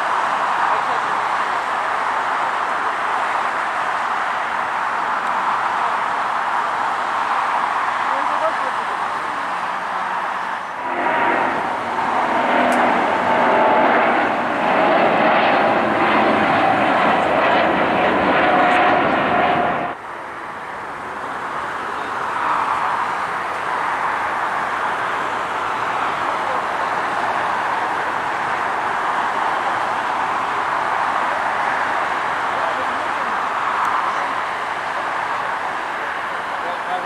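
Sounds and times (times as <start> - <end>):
jet engines roaring at takeoff: 0.0 - 37.0
steady jet engine noise: 0.0 - 37.0.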